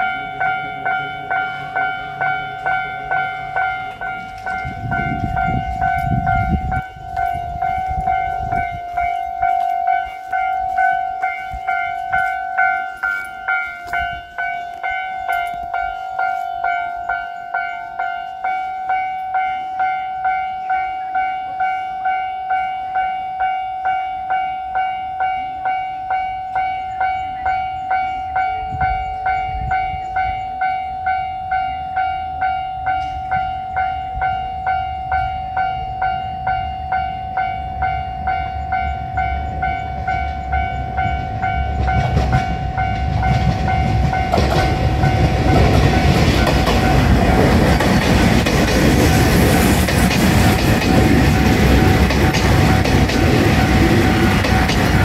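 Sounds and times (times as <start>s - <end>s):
diesel railcar engine and wheels: 0.0s - 55.0s
level crossing alarm bell ringing: 0.0s - 55.0s.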